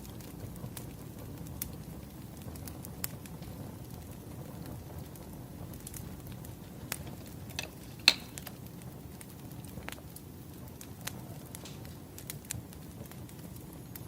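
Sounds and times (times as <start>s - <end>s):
firewood crackling and popping: 0.0s - 14.0s.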